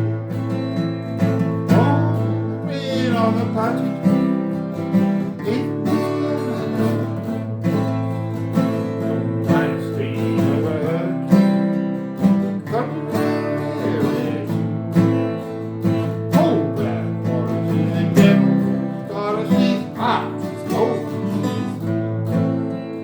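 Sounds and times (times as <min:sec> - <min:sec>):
acoustic guitars strumming chords: 0:00.0 - 0:23.0.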